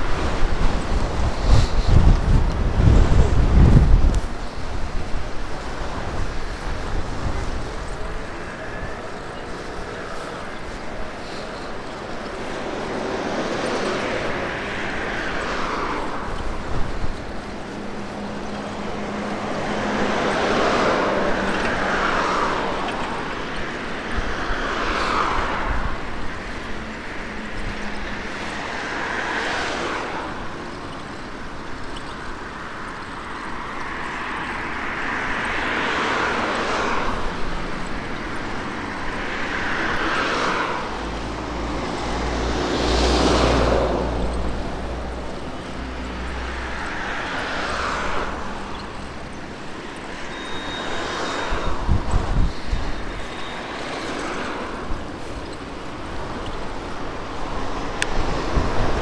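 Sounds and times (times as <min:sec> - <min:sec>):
vehicles passing by: 0:00.0 - 0:59.0.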